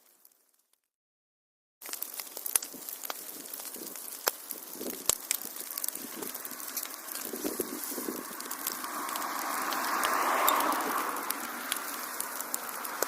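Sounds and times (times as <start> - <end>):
fire crackling and popping: 0.0 - 0.9, 1.8 - 13.0
hiss of flame: 1.8 - 13.0.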